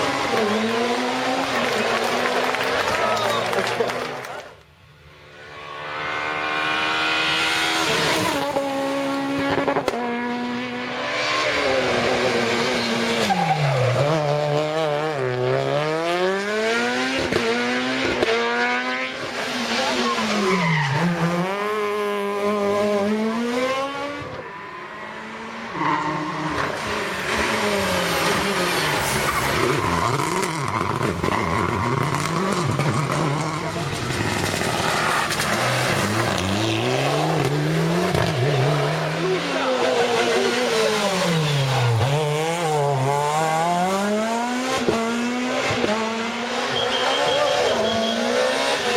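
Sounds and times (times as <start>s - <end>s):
rally car engine revving: 0.0s - 4.5s, 5.1s - 48.9s.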